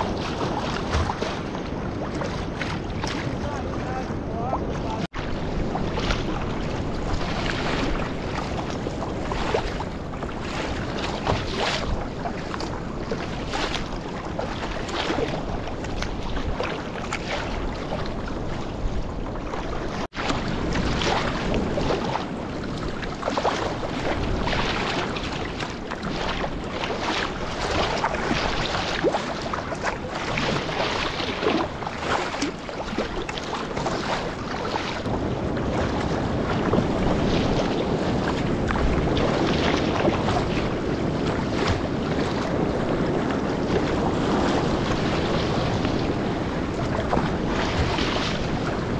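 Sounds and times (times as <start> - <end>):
waves slapping against kayak hull: 0.0 - 48.9
wind buffeting microphone: 0.0 - 48.9.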